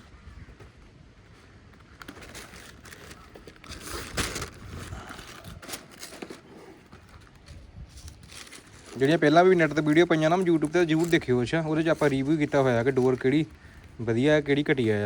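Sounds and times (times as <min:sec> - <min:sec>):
kite material crinkling: 0:00.4 - 0:15.0.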